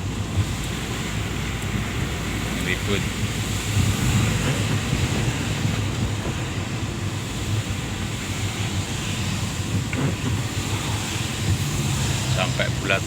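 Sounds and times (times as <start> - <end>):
storm wind buffeting microphone: 0.1 - 13.0.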